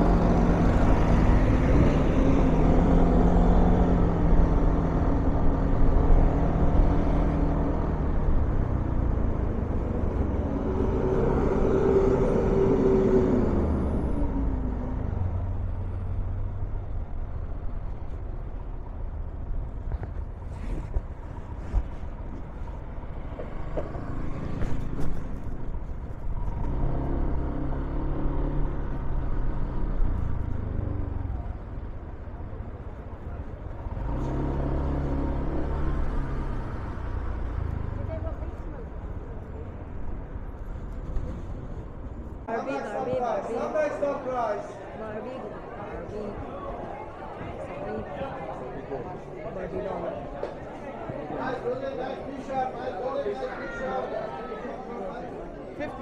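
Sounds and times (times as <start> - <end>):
vehicles passing by: 0.0 - 56.0.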